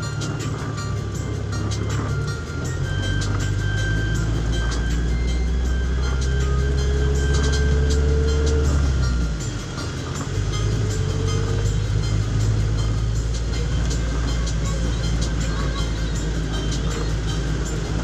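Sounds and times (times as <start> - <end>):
vehicle engine speeding up: 0.0 - 15.4.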